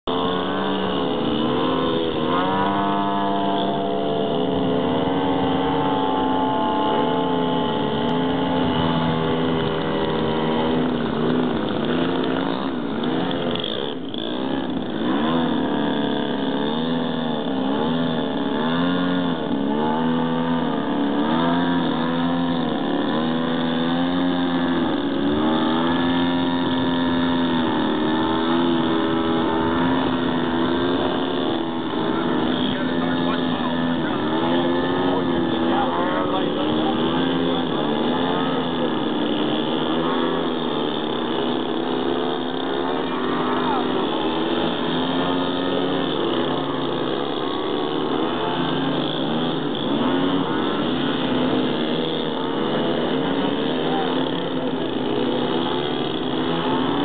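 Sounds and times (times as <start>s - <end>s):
model plane engines: 0.0s - 57.0s.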